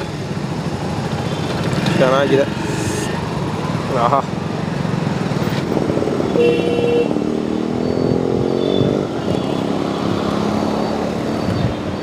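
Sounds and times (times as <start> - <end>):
vehicle engines passing: 0.0 - 12.0.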